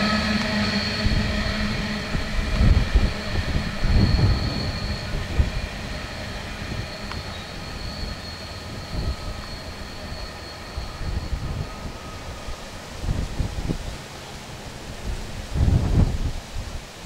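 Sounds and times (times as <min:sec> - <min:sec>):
train wagons rumbling on rails: 0:00.0 - 0:17.0.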